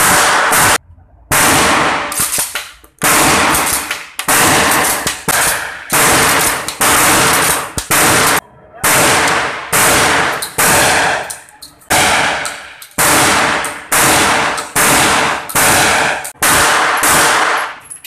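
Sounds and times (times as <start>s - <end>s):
shotgun shots echoing: 0.0s - 17.8s.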